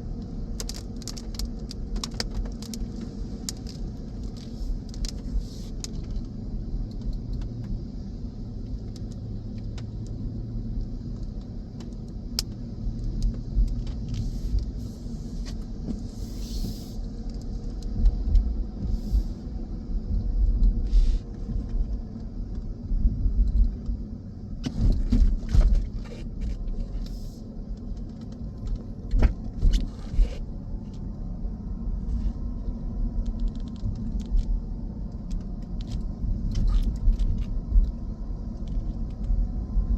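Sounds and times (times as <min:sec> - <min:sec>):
car rumbling while driving: 0:00.0 - 0:39.9.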